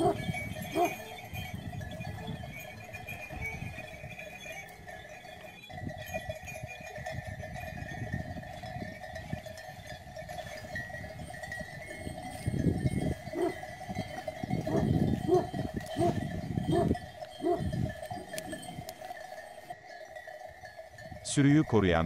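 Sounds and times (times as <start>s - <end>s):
flock bells ringing: 0.0s - 22.0s.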